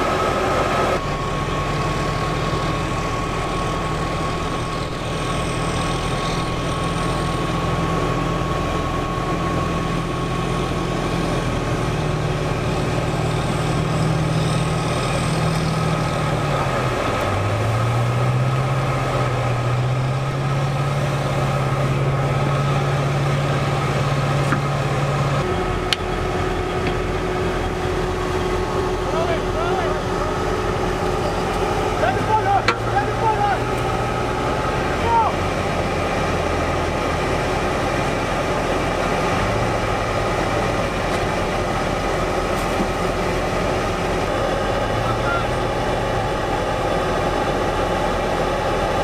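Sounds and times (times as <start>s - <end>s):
diesel engine running: 0.0s - 49.0s
water rushing: 0.0s - 49.0s.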